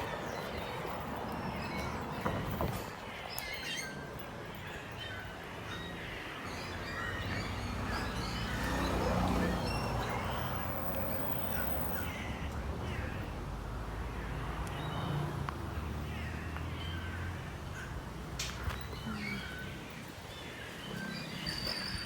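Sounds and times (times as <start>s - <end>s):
birds chirping and calling: 0.0s - 15.2s, 16.1s - 22.0s.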